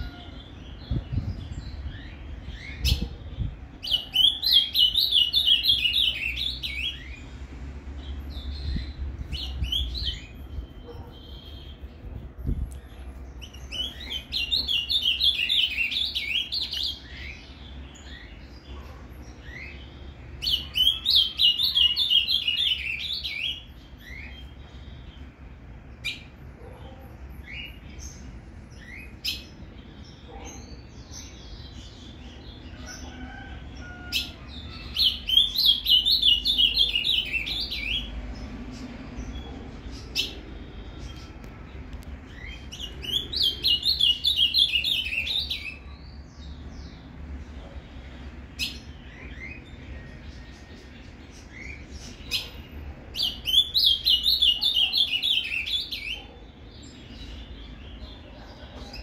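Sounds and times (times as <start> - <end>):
bird singing warbled phrases: 0.0 - 7.4, 8.0 - 33.2, 34.0 - 59.0.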